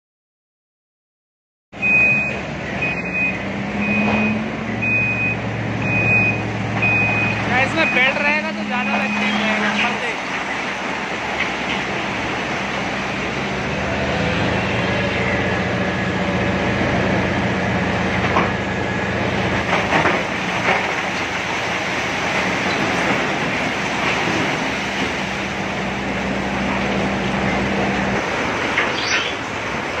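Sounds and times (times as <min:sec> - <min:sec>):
diesel truck engine running: 0:01.8 - 0:30.0.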